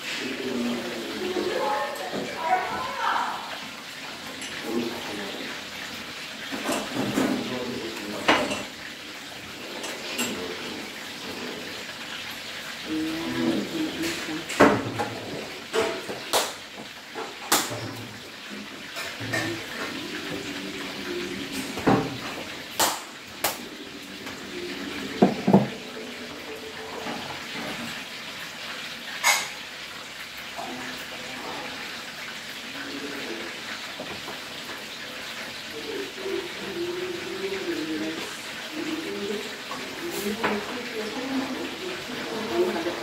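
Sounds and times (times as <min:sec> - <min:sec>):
food sizzling in oil: 0:00.0 - 0:43.0.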